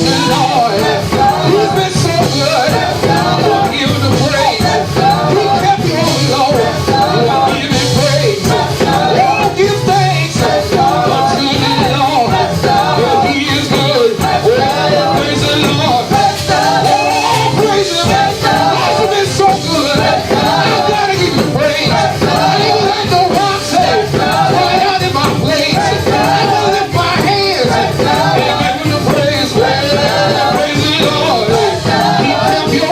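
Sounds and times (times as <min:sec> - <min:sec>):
band playing: 0:00.0 - 0:32.9
people singing: 0:00.0 - 0:32.9.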